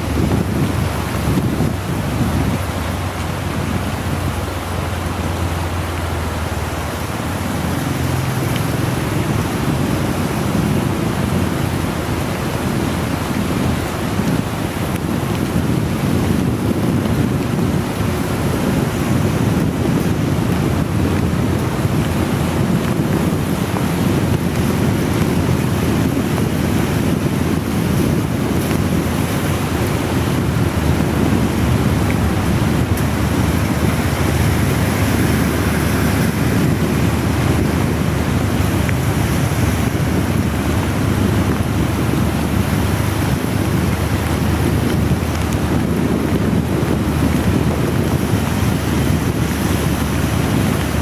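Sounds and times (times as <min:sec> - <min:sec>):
heavy rain hissing: 0:00.0 - 0:51.0
wind buffeting the microphone: 0:00.0 - 0:51.0.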